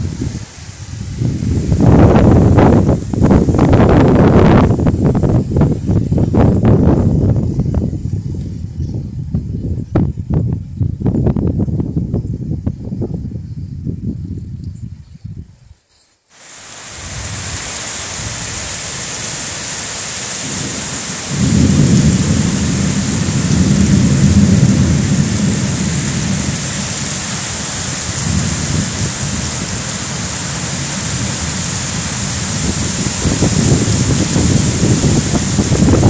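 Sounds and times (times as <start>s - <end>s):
heavy rain downpour: 0.0s - 9.6s, 16.3s - 36.0s
gusty wind: 0.0s - 15.8s, 16.4s - 36.0s.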